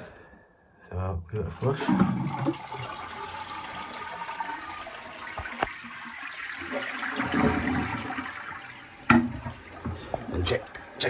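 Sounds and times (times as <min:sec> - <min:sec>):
toilet flushing: 0:01.5 - 0:11.0.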